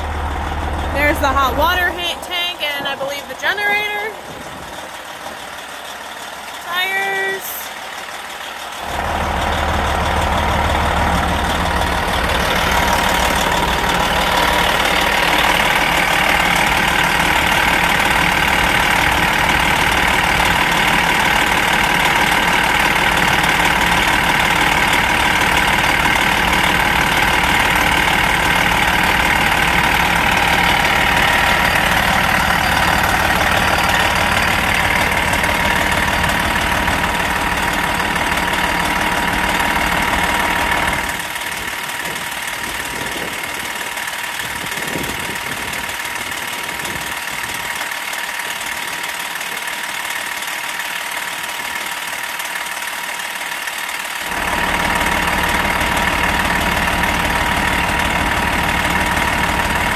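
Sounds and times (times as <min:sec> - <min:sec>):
diesel engine starting and idling: 0:00.0 - 0:59.9.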